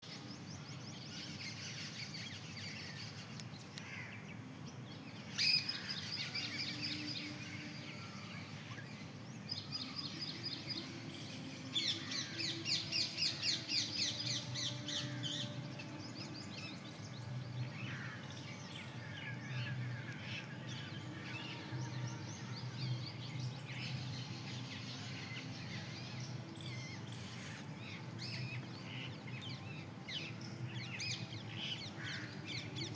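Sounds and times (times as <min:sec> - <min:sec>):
birds chirping: 0:00.1 - 0:32.9.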